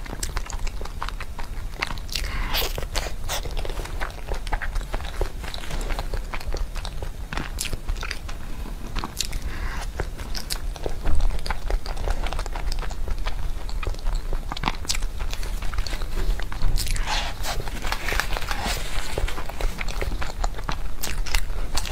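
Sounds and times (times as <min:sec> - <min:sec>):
person chewing and smacking: 0:00.0 - 0:21.9.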